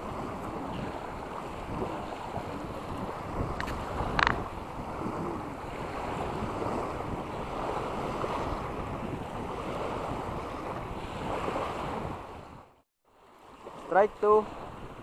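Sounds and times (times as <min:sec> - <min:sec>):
sea waves washing ashore: 0:00.0 - 0:15.0
wind rumbling on microphone: 0:00.0 - 0:15.0.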